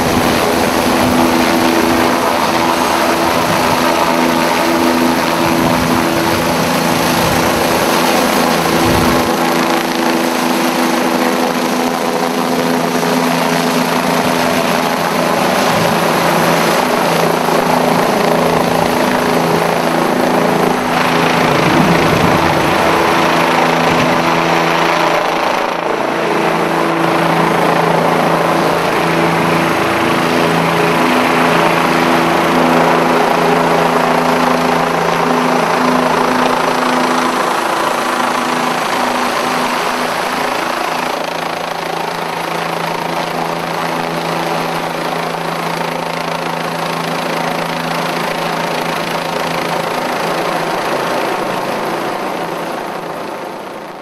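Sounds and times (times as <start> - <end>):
helicopter flying overhead: 0.0 - 54.0.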